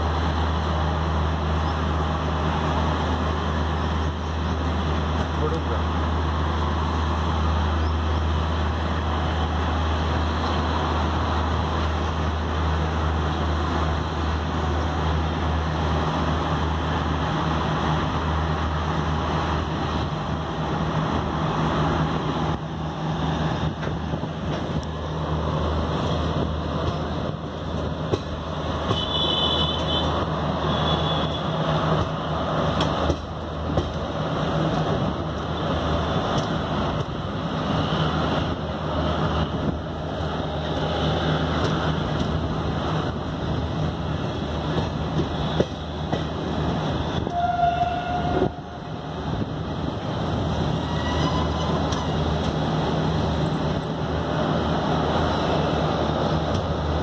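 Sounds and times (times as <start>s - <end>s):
train wheels rolling on rails: 0.0s - 57.0s
wind: 0.0s - 57.0s.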